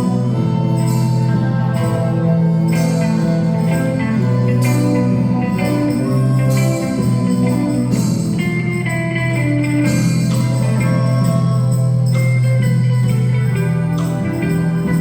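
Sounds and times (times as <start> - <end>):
instrumental ensemble playing: 0.0 - 15.0.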